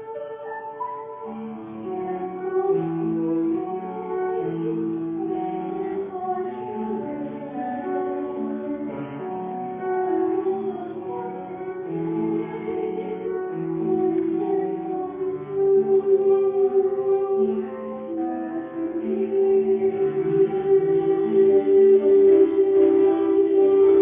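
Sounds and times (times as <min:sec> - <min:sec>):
girl singing: 0:00.0 - 0:24.0.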